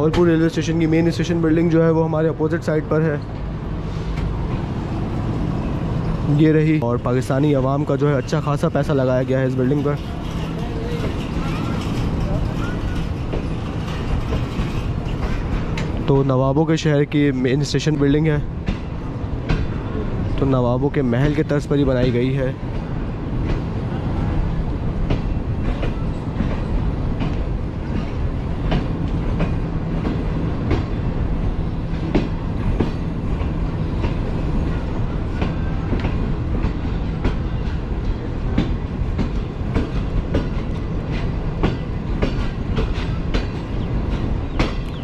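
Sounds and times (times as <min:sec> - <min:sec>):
train rumbling on track: 0:00.0 - 0:45.0
train wheels clicking over joints: 0:02.5 - 0:45.0.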